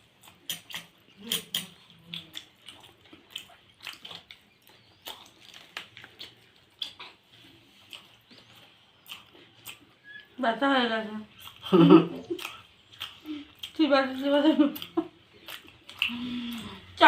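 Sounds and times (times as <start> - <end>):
wet chewing: 0.0 - 10.4, 11.3 - 17.0.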